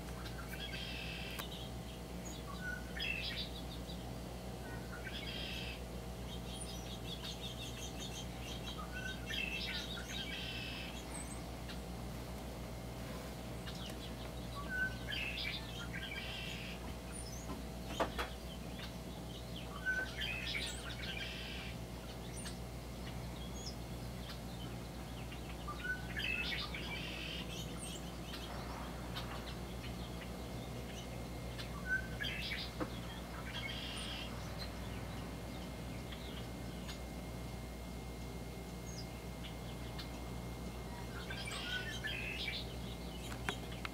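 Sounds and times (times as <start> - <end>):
faint low hum: 0.0 - 43.9
blackbird singing buzzy trill: 0.2 - 12.0, 13.5 - 43.9.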